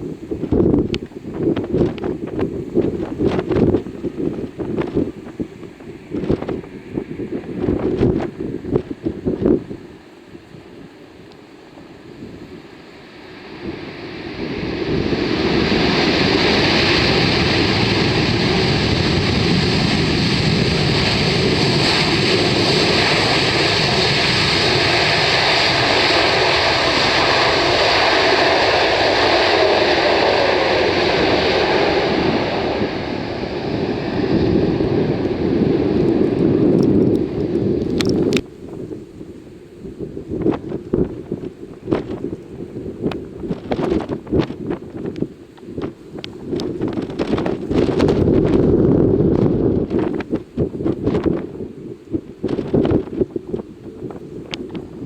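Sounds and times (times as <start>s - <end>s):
jet engine roar: 0.0s - 55.0s
wind buffeting microphone: 0.0s - 55.0s.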